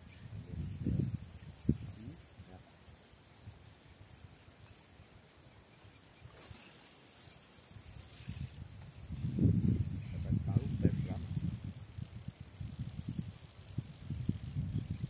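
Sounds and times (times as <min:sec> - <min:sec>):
insects chirping in pulses: 0:00.0 - 0:15.0.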